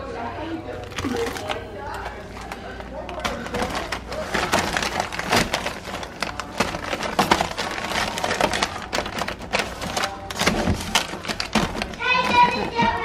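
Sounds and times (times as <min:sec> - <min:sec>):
plastic bags crinkling: 0:00.7 - 0:13.0.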